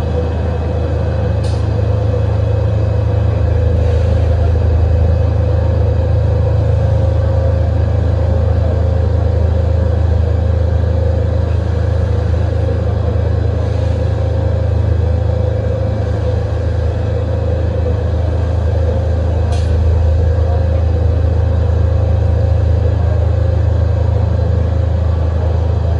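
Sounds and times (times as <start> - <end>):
lathe humming and whining: 0.0 - 25.9.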